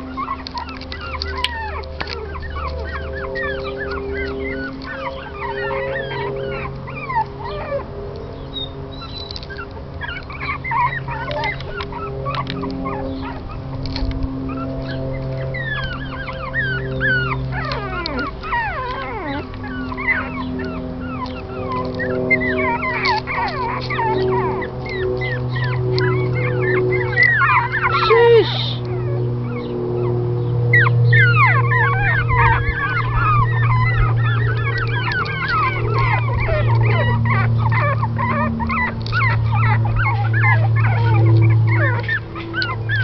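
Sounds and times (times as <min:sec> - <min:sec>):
puppies yipping and squeaking: 0:00.0 - 0:43.0
steady low hum: 0:00.0 - 0:43.0.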